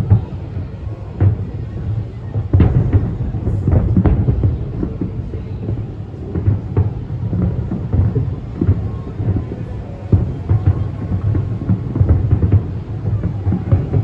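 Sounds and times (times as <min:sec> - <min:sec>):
continuous low rumble: 0:00.0 - 0:14.0
fireworks sharp bangs: 0:00.0 - 0:14.0.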